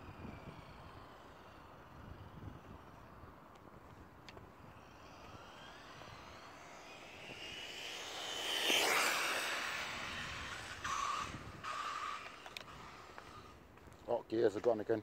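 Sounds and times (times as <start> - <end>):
rc car electric motor whining: 0.0 - 13.7.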